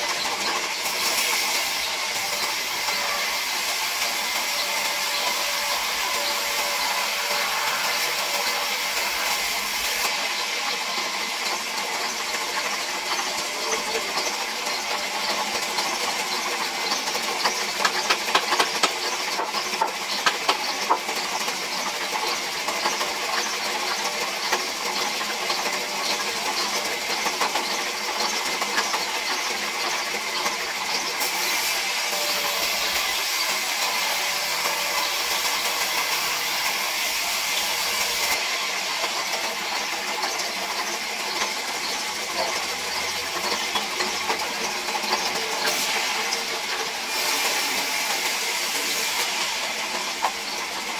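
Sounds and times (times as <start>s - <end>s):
band saw cutting wood: 0.0s - 50.9s.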